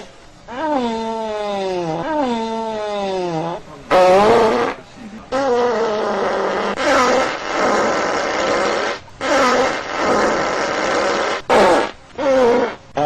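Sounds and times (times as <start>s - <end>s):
farts with wavering pitch: 0.0s - 13.0s.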